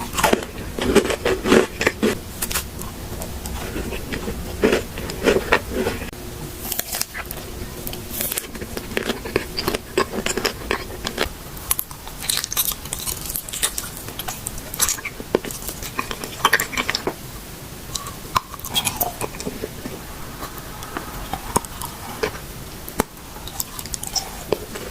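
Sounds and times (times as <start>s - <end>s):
crackling mouth sounds: 0.0s - 17.2s, 17.8s - 24.9s
chewing with crisp crunches: 0.0s - 24.9s.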